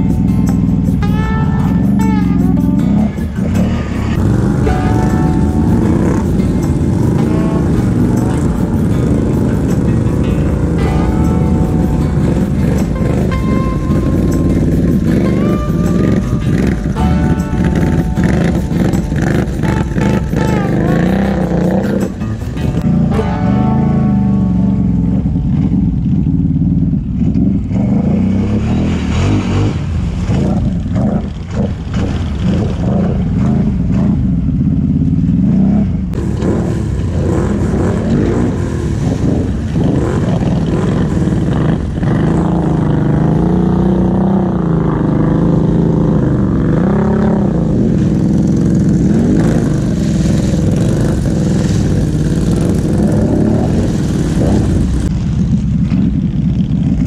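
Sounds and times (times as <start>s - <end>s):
atv engines revving: 0.0s - 57.0s
water splashing and churning: 0.0s - 57.0s.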